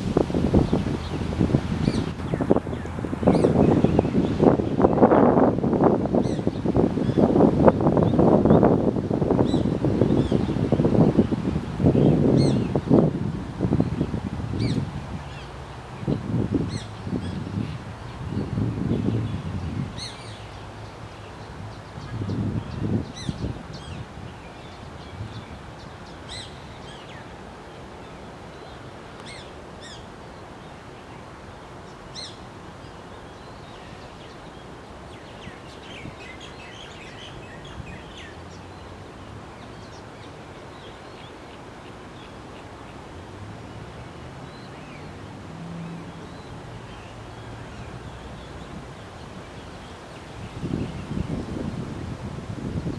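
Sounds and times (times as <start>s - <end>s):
wind noise on microphone: 0.0s - 52.9s.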